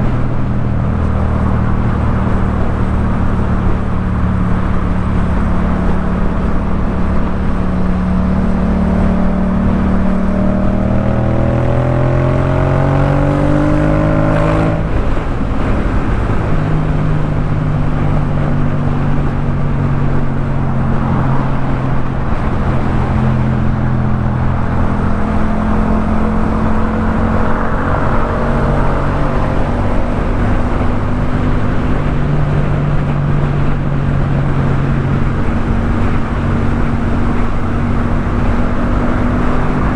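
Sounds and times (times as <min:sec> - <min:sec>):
motorcycle engine riding: 0:00.0 - 0:39.9
wind and road noise: 0:00.0 - 0:39.9.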